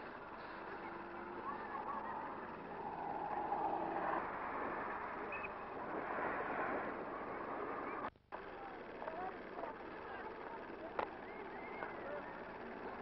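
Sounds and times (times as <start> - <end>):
vehicle engines in street traffic: 0.0 - 13.0.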